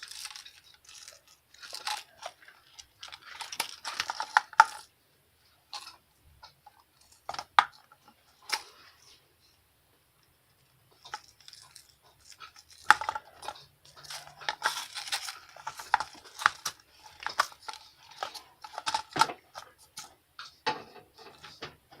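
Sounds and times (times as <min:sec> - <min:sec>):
rustling: 0:00.0 - 0:22.0.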